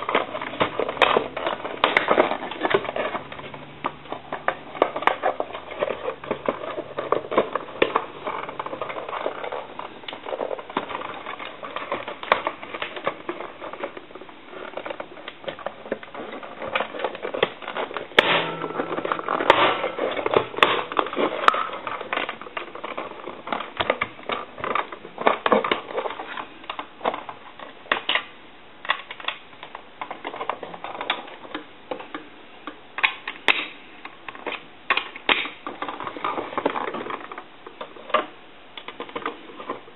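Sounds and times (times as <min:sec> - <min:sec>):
sharp plastic clacks: 0:00.0 - 0:39.9.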